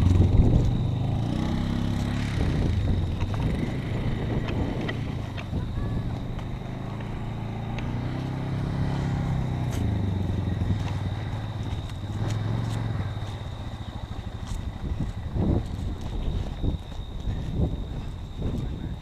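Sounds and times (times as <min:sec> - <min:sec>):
small engine revving: 0:00.0 - 0:17.9.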